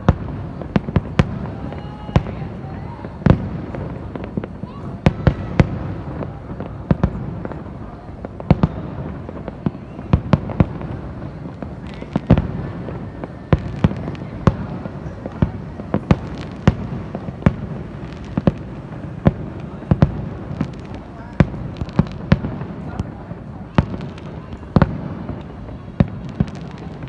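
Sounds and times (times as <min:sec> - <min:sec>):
distant fireworks rumble: 0:00.0 - 0:27.0
fireworks bangs: 0:00.0 - 0:27.0.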